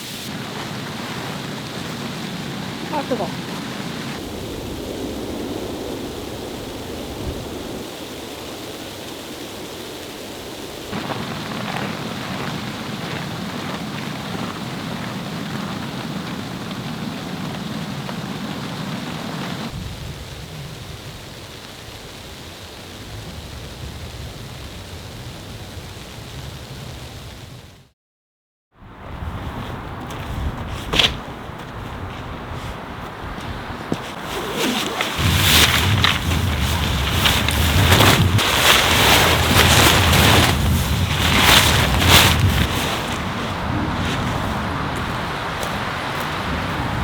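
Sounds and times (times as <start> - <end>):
falling rain or snow: 0.0 - 27.9, 31.3 - 47.0
wind: 0.0 - 27.9, 28.7 - 47.0.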